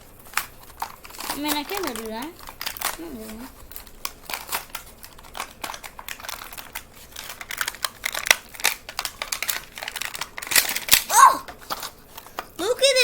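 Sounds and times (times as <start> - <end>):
plastic packaging being torn open: 0.2 - 12.5.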